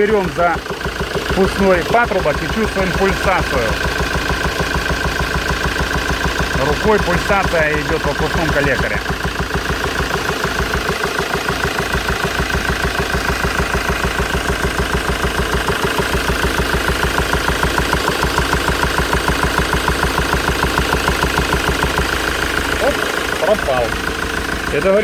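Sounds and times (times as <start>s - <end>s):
diesel engine idling: 0.0s - 25.0s
engine lifter knocking: 0.0s - 25.0s.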